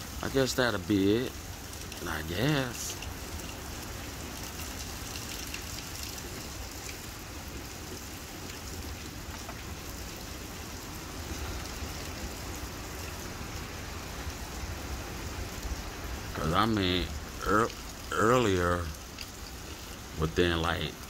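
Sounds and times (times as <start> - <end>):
heavy rain splashing: 0.0 - 21.0.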